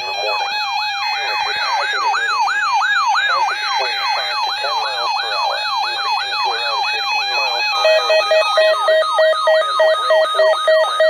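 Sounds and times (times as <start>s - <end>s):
electronic yelp siren: 0.0s - 11.0s.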